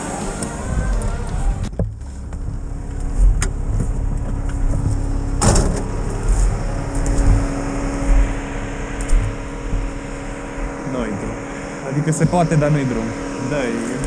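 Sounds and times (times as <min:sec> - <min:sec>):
off-road vehicle engine low revs: 0:00.0 - 0:14.0.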